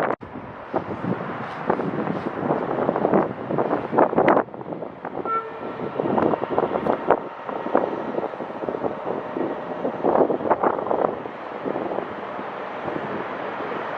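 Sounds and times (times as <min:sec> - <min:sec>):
train moving: 0:00.0 - 0:13.9
wind buffeting microphone: 0:00.0 - 0:13.9.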